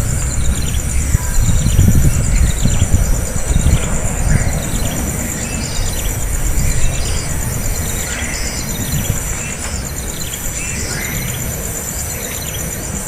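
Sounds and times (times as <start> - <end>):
insect trilling: 0.0 - 13.0.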